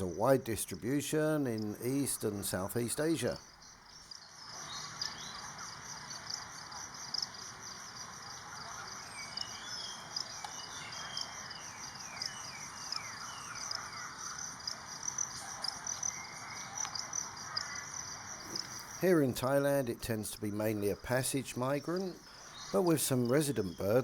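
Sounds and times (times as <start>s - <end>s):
insects chorus: 0.0s - 24.0s.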